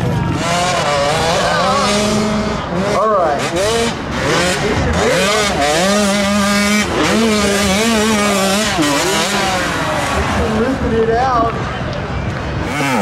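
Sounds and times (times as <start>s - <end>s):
motorcycle engine revving: 0.0s - 11.2s, 12.5s - 13.0s.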